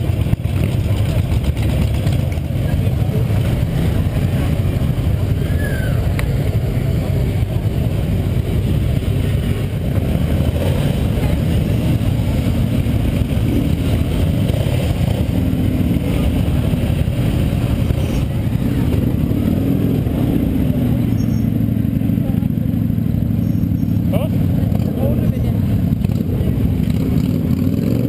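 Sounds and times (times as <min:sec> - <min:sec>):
motorcycles riding past: 0:00.0 - 0:28.0.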